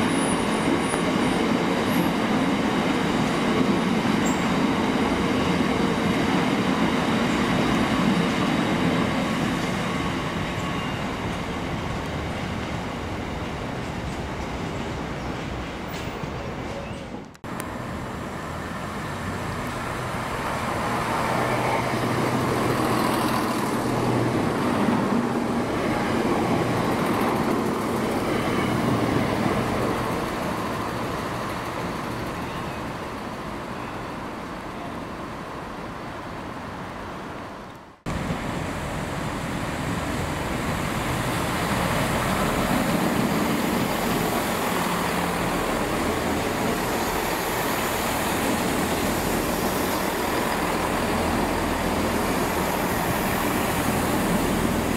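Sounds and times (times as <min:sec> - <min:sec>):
diesel train arriving: 0:00.0 - 0:54.9.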